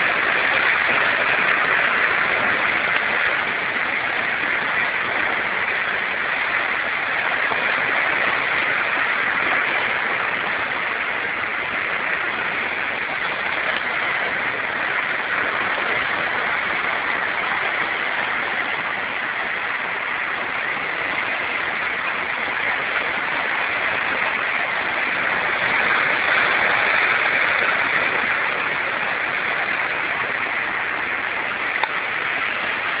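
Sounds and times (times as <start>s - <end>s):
surf breaking on rocky shore: 0.0s - 33.0s.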